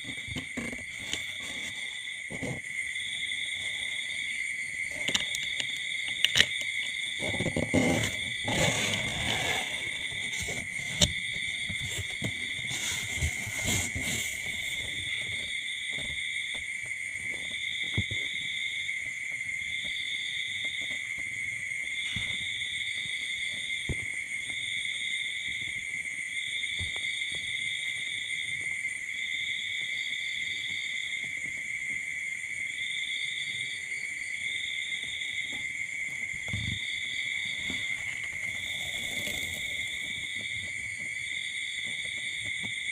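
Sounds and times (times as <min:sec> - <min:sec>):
steady high-pitched insect trill: 0:00.0 - 0:12.8, 0:14.2 - 0:42.9.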